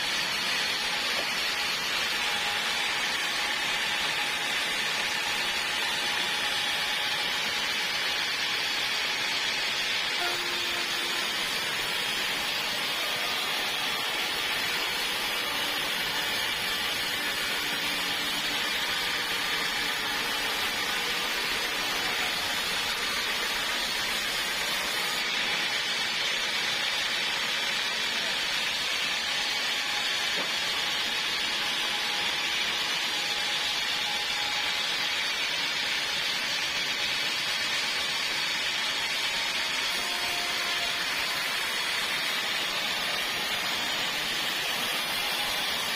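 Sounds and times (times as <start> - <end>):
sawmill blade cutting log: 0.0 - 45.9.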